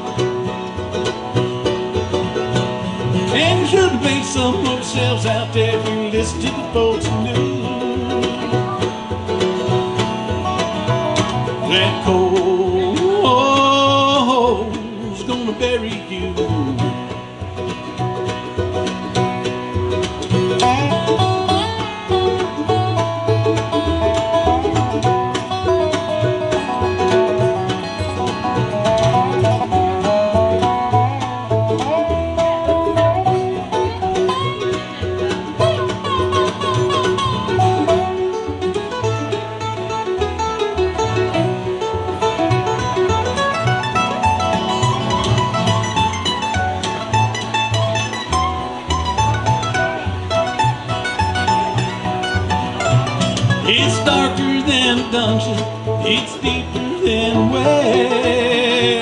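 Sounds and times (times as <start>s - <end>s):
bluegrass band playing: 0.0s - 59.0s
fast banjo picking: 0.0s - 59.0s
guitar picking: 0.0s - 59.0s.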